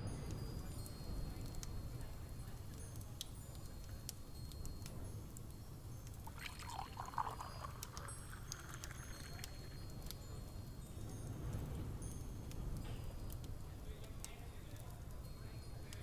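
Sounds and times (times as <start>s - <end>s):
high tinkles: 0.0s - 16.0s.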